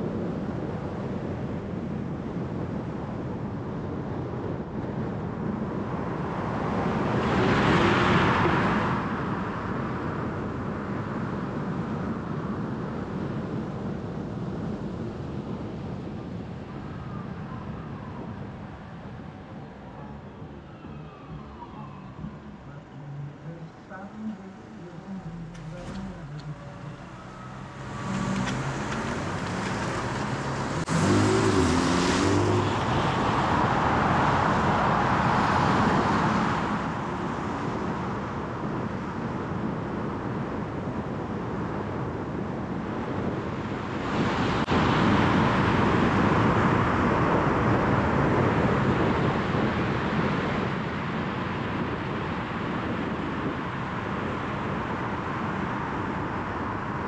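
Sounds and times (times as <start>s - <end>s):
car road and tyre noise: 0.0s - 57.0s.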